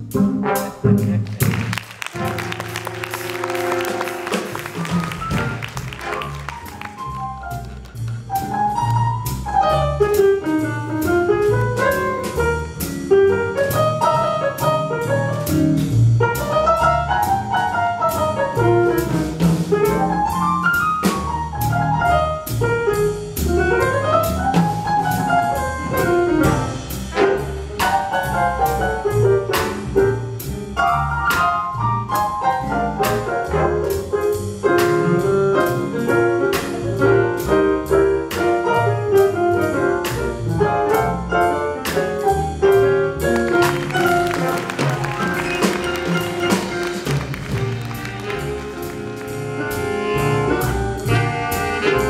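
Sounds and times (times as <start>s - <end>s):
bass notes: 0.0s - 52.0s
drums and cymbals: 0.0s - 52.0s
piano: 0.0s - 52.0s.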